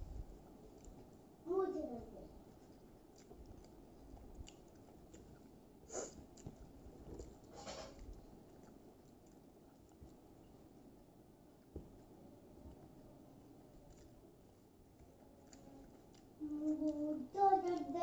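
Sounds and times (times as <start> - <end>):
faint chewing: 0.4 - 1.4, 2.2 - 18.0.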